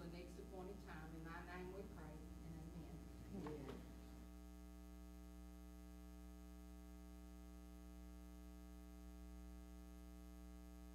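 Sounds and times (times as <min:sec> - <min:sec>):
low electrical mains hum: 0:00.0 - 0:10.9.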